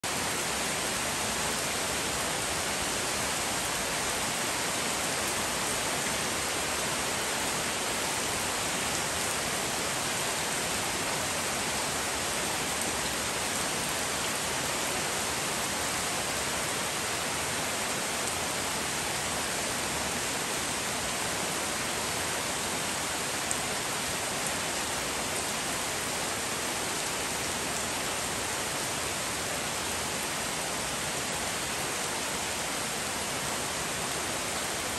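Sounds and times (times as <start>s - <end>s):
rain falling steadily: 0.0s - 34.9s.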